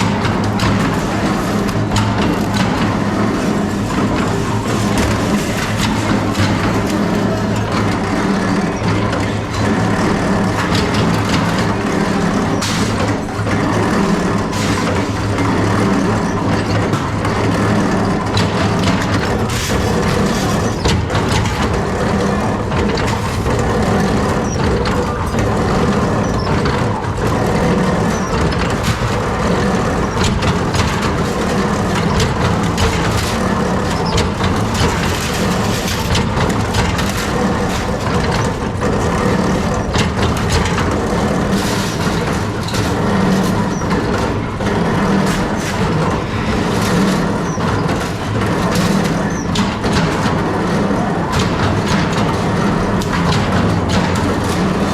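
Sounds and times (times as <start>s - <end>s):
workshop machinery humming: 0.0s - 54.9s.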